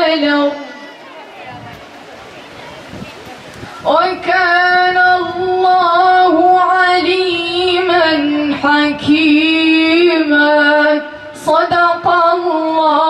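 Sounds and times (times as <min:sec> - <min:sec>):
woman reciting melodically: 0:00.0 - 0:01.6, 0:03.8 - 0:13.0.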